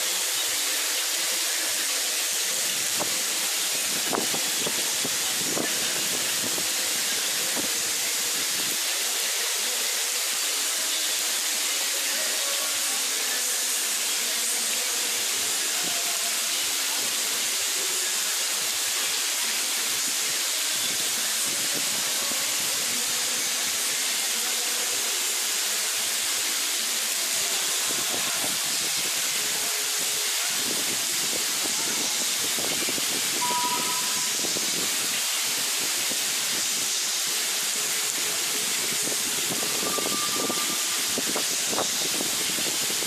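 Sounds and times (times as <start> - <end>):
heavy rain falling: 0.0 - 43.0.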